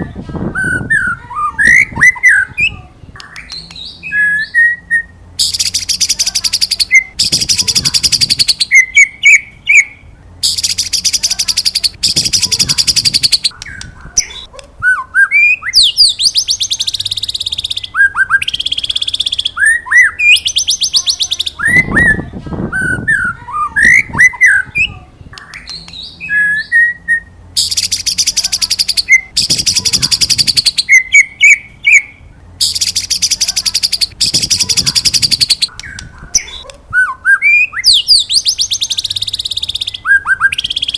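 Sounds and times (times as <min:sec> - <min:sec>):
bird singing whistles and trills: 0:00.5 - 0:02.8, 0:03.4 - 0:40.9.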